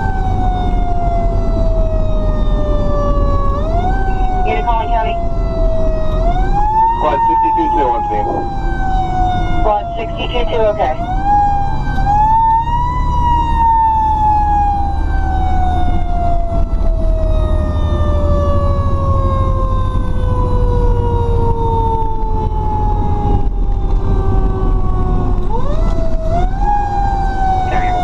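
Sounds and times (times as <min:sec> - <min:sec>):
engine rumble: 0:00.0 - 0:28.0
fire truck siren wailing: 0:00.0 - 0:28.0.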